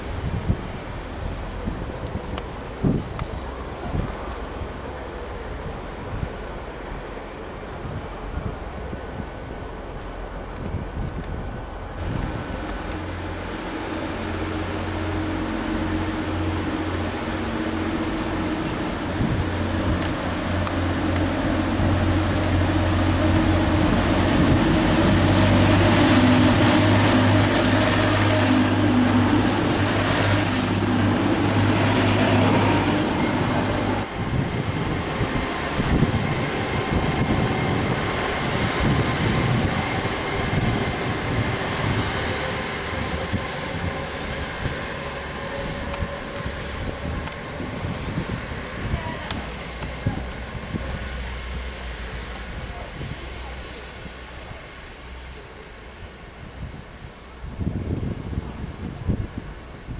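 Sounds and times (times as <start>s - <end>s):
train drone with high whine: 0.0s - 59.9s
train rumble: 0.0s - 59.9s.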